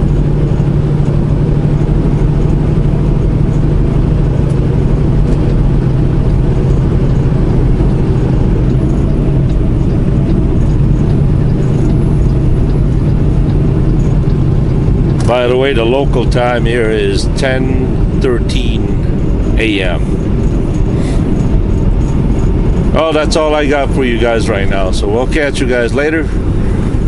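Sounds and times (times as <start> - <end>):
road noise: 0.0 - 27.0
truck diesel engine: 0.0 - 27.0.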